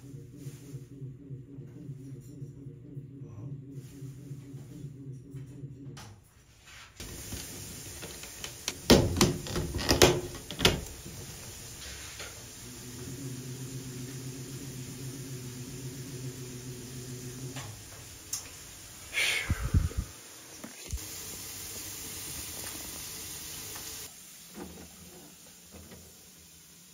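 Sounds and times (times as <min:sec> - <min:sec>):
exhaust fan humming: 0:00.0 - 0:26.9.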